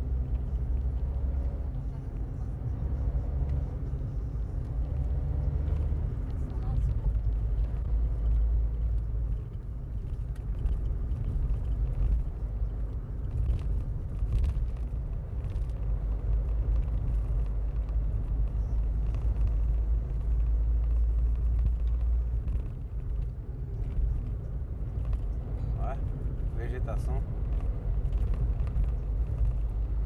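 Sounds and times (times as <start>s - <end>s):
car engine and tyre noise: 0.0s - 30.0s.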